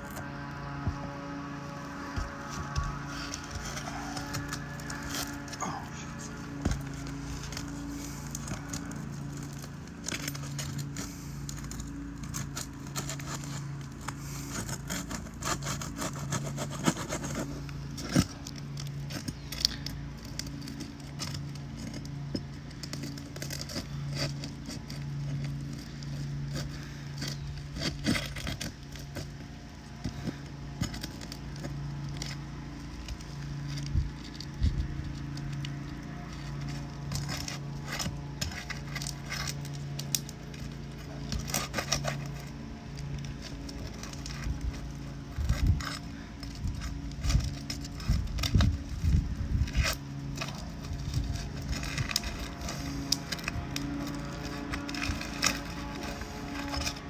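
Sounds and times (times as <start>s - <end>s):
low pulsing hum: 0.0s - 57.0s
shingles scraping and crackling: 0.0s - 57.0s.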